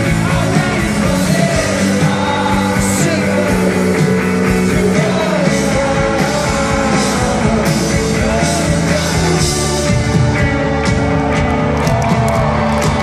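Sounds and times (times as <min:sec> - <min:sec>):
lead singer's voice: 0:00.0 - 0:11.4
rock band playing live: 0:00.0 - 0:13.0.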